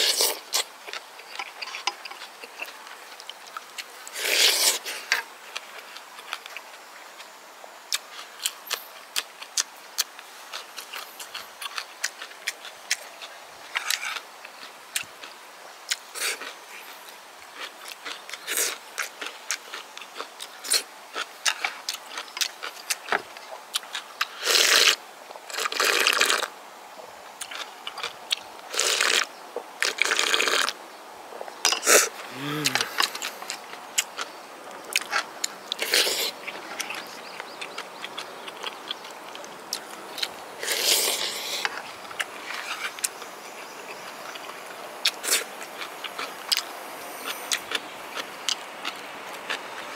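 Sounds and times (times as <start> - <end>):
wet chewing with crunches: 0.0 - 7.3, 7.9 - 26.5, 27.3 - 30.8, 31.4 - 49.9.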